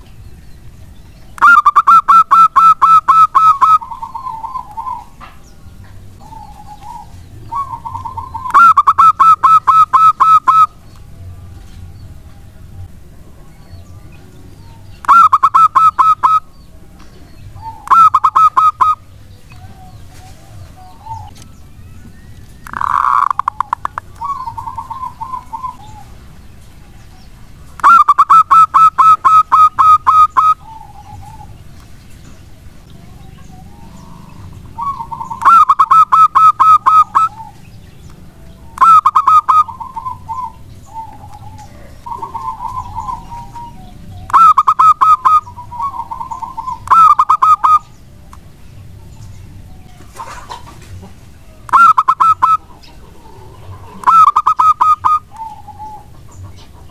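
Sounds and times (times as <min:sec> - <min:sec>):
dove cooing: 0:01.3 - 0:11.8, 0:14.6 - 0:26.4, 0:27.6 - 0:31.8, 0:32.4 - 0:48.0, 0:50.0 - 0:56.9.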